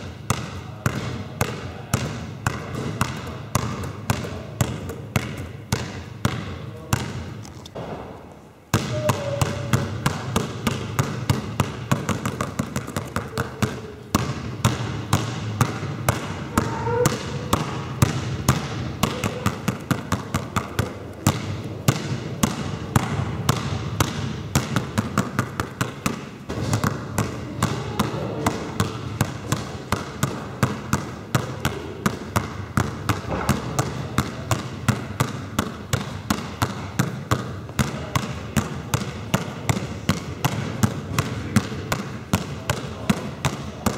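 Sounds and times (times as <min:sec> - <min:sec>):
basketballs bouncing in hall: 0:00.0 - 0:43.9.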